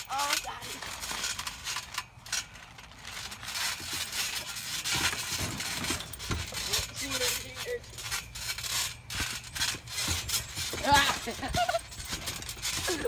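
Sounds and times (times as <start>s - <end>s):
trampoline springs creaking and rattling: 0.0s - 13.0s.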